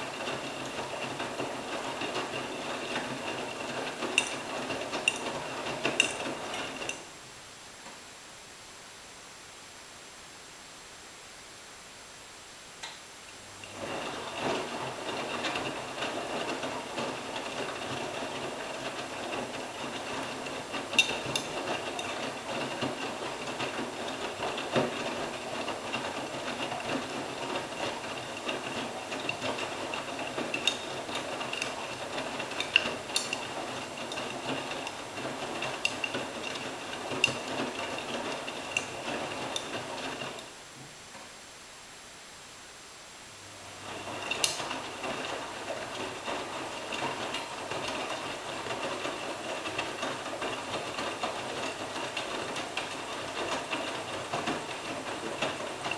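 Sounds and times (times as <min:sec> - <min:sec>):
washing machine drum tumbling laundry: 0:00.0 - 0:07.1, 0:13.5 - 0:41.0, 0:43.6 - 0:55.9.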